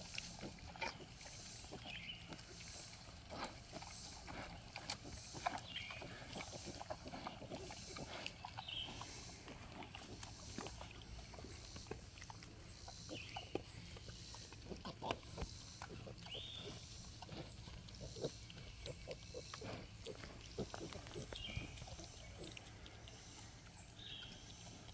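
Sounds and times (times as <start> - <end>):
pigs snuffling and grunting: 0.0 - 24.9.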